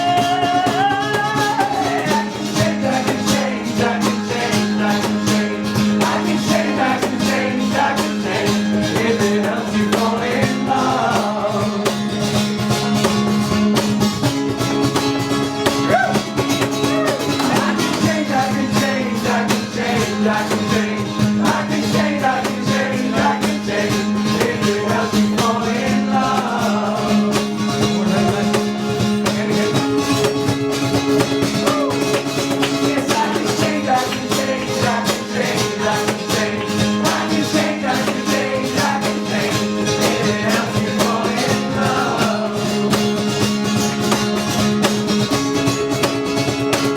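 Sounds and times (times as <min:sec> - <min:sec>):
guitar strumming: 0:00.0 - 0:46.9.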